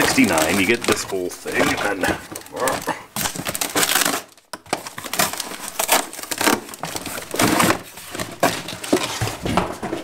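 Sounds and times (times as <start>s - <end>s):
packaging crinkling: 0.0s - 9.7s.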